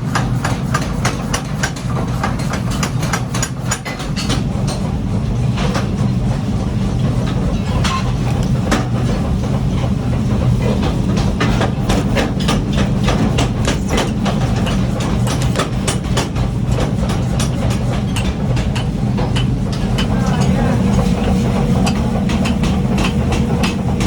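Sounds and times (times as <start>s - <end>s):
workshop machinery humming: 0.0s - 24.0s.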